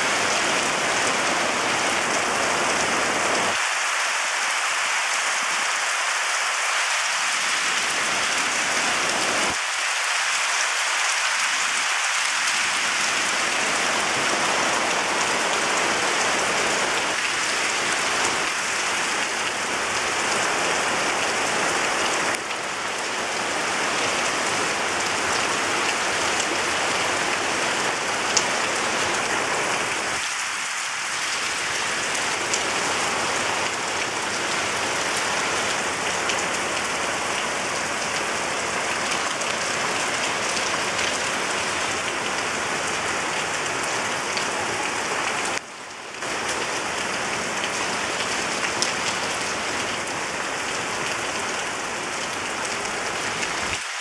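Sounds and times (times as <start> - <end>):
heavy rain on leaves and roofs: 0.0 - 54.0.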